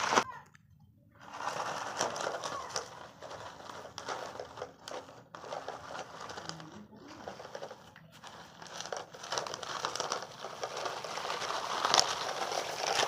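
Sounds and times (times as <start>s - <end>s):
feed pellets rustling and crunching: 0.0s - 0.2s, 1.2s - 13.0s.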